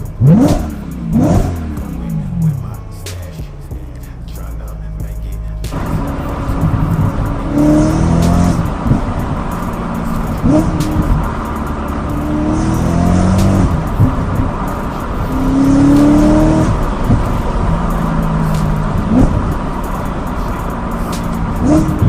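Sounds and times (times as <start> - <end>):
background music: 0.0 - 22.0
car engine revving: 0.0 - 22.0
exhaust cracks: 0.0 - 22.0.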